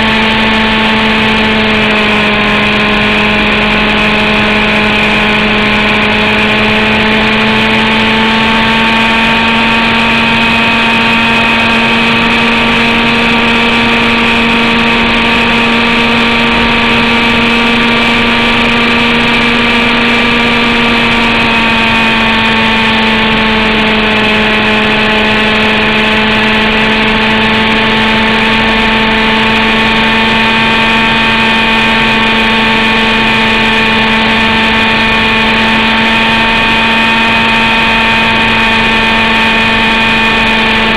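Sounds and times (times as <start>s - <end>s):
two-stroke engine running: 0.0s - 40.9s.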